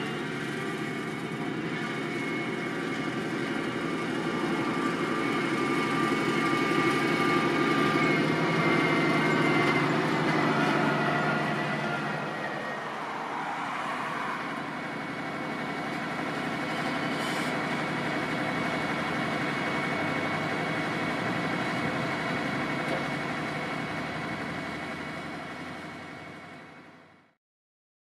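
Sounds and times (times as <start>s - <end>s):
machine engine running: 0.0s - 26.8s.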